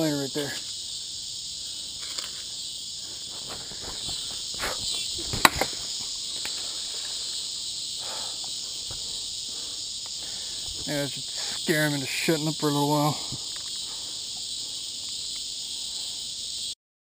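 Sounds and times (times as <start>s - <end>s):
cicada buzzing: 0.0s - 16.8s.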